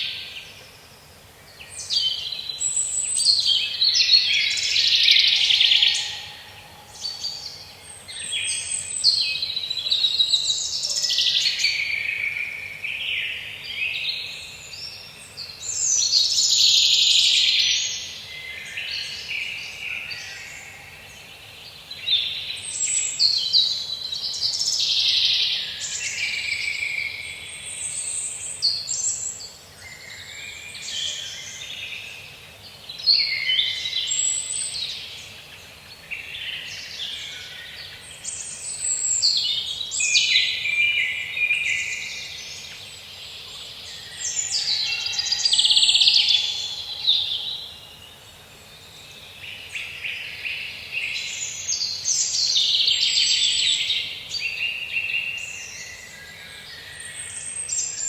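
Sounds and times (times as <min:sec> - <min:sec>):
faint steady hiss: 0:00.0 - 0:58.0
birds singing and chirping: 0:01.1 - 0:58.0.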